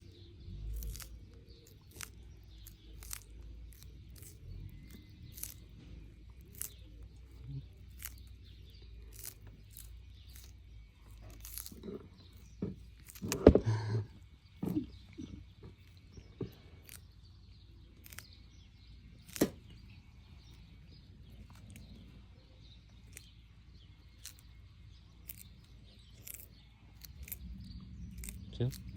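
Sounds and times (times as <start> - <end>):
turtle crunching food: 0.0 - 28.9.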